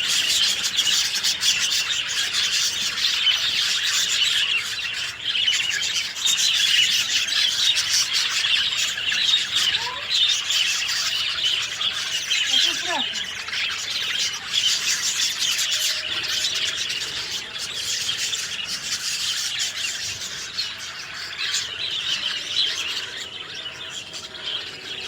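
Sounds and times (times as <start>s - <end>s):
low gliding bird calls: 0.0s - 25.0s
small birds chirping: 0.0s - 25.0s.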